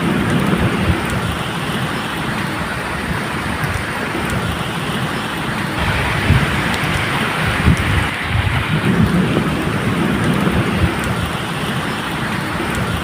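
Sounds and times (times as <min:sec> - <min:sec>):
distant thunder rumble: 0:00.0 - 0:13.0
steady rain falling: 0:00.0 - 0:13.0.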